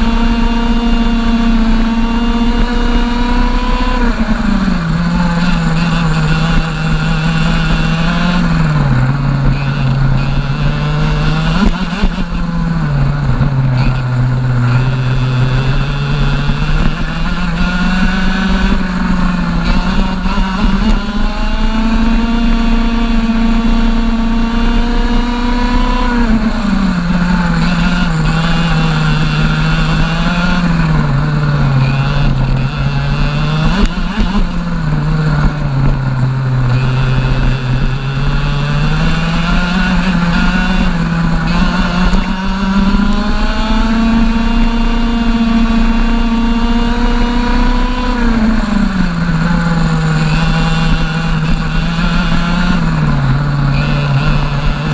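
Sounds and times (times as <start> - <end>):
kart engine revving: 0.0 - 54.9.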